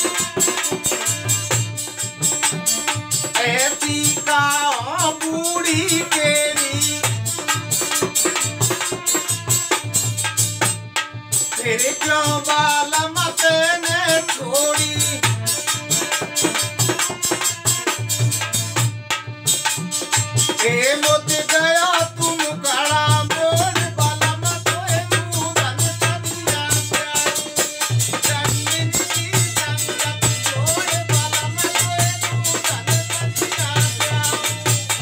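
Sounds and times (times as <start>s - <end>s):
man singing: 0.0s - 10.4s, 11.4s - 35.0s
harmonium chords: 0.0s - 35.0s.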